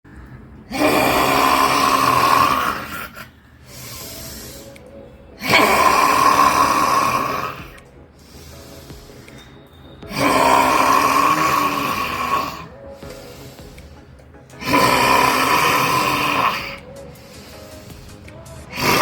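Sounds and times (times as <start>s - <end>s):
person snoring: 0.7s - 4.8s, 5.4s - 9.4s, 10.0s - 19.0s.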